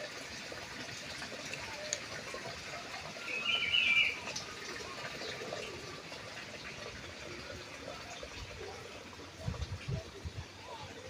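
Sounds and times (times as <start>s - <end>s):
water flowing: 0.0s - 11.0s.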